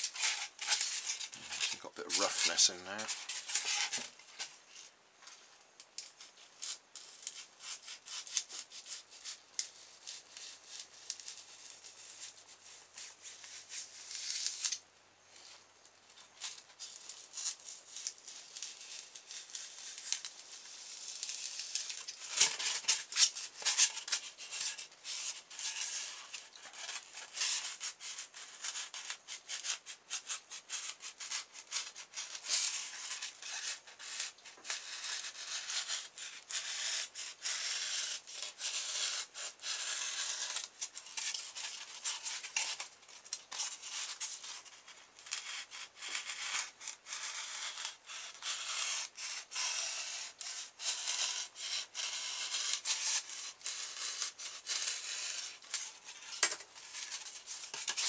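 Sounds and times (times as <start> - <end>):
knife scraping polystyrene foam: 0.0 - 4.9, 6.0 - 15.6, 16.2 - 58.0.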